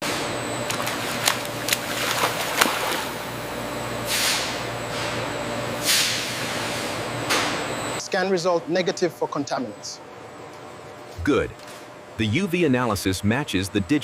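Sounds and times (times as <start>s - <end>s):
machinery humming: 0.0s - 8.8s, 10.9s - 14.0s.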